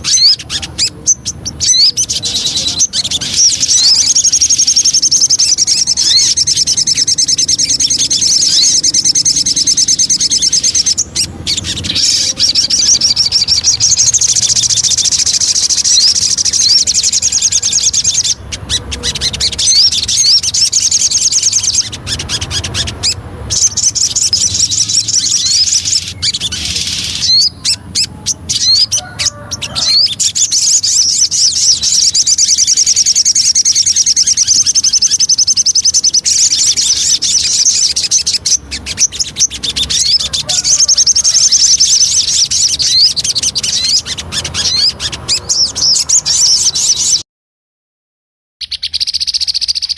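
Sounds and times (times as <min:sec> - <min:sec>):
bird rapid high chirps: 0:00.0 - 0:47.2, 0:48.6 - 0:49.9.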